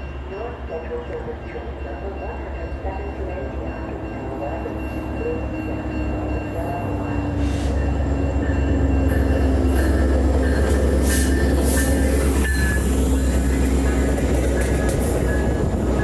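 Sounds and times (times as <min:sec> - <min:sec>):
diesel train rumbling: 0:00.0 - 0:16.0
train cars clattering: 0:00.0 - 0:16.0.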